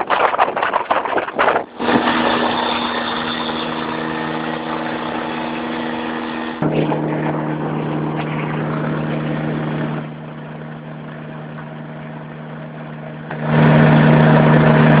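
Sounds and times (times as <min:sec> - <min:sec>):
loud uneven rushing noise: 0:00.0 - 0:15.0
ultralight aircraft engine idling: 0:00.0 - 0:15.0.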